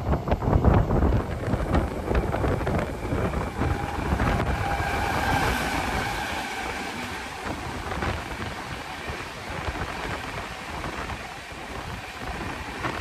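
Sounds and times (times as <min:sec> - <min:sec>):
train wheels rumbling on rails: 0:00.0 - 0:13.0
wind on microphone: 0:00.0 - 0:13.0.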